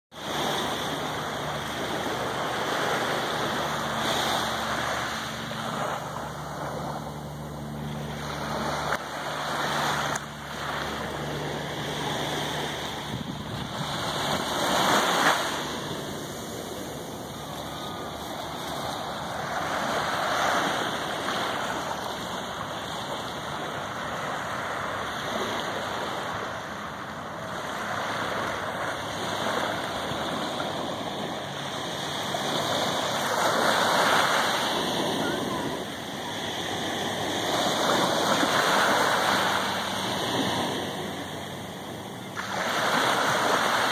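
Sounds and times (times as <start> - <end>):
waves lapping on sandy beach: 0.1 - 43.9.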